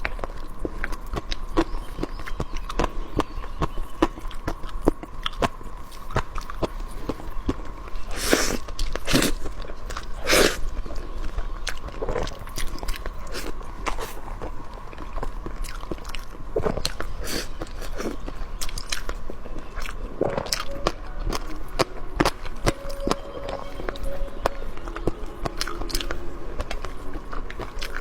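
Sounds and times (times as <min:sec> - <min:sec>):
food crunching: 0:00.0 - 0:28.0
person chewing food: 0:00.0 - 0:28.0.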